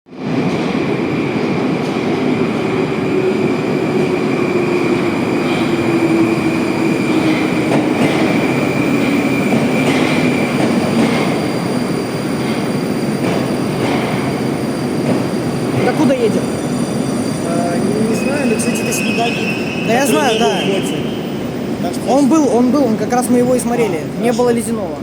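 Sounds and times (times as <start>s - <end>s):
metro train running: 0.1s - 25.0s.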